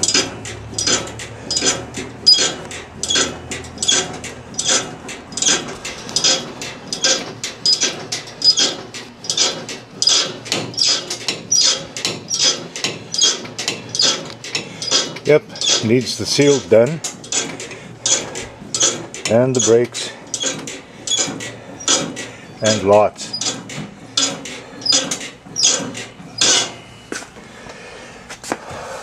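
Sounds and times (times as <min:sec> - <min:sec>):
lift clacking mechanically: 0:00.0 - 0:27.4.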